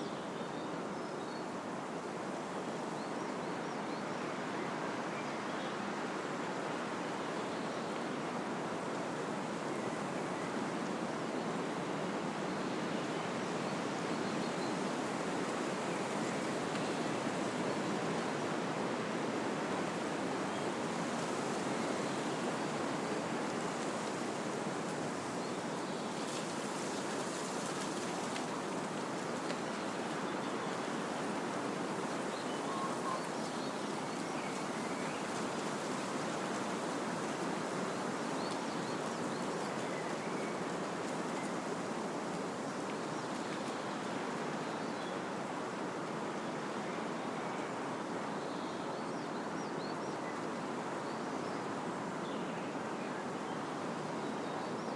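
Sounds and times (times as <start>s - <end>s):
wind rushing through trees: 0.0s - 54.9s.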